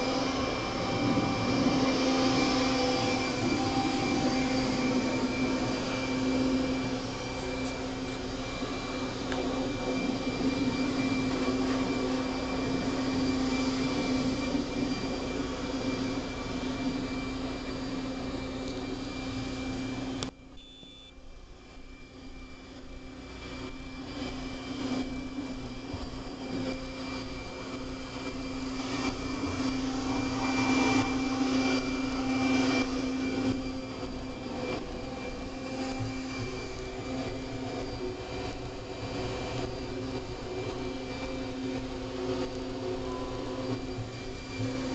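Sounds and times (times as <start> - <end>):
leaf blower motor whine: 0.0 - 44.9.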